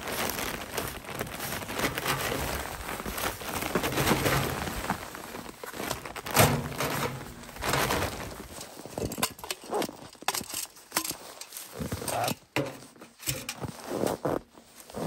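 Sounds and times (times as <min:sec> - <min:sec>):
footsteps crunching in snow: 0:00.0 - 0:15.0
jacket rustling: 0:00.0 - 0:15.0.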